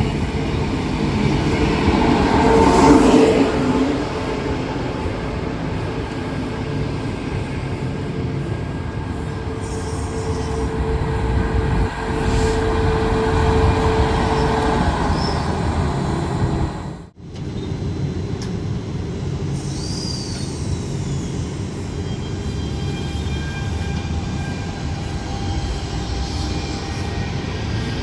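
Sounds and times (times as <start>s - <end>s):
steady train whine: 0.0s - 28.0s
train wheels rumbling on rail: 0.0s - 28.0s.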